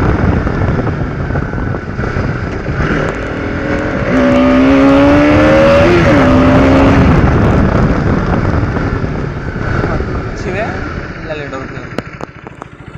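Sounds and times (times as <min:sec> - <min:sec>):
vehicle road and wind rumble: 0:00.0 - 0:12.9.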